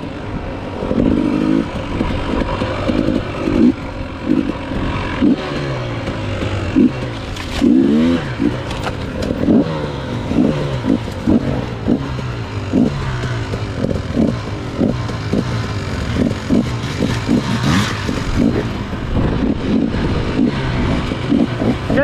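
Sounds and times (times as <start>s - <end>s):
dirt bike engine revving: 0.0s - 22.0s
engine clatter: 0.0s - 22.0s.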